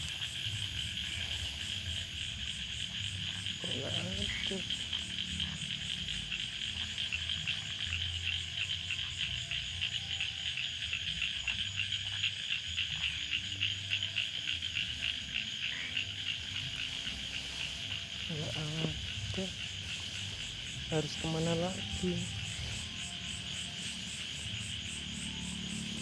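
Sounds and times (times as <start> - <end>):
frogs calling: 0.0 - 26.0.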